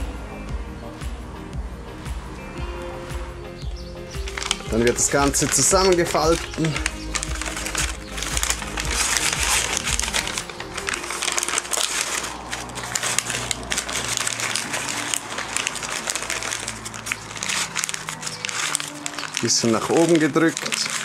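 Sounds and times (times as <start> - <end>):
background music: 0.0 - 21.0
paper crinkling and rustling: 4.1 - 21.0.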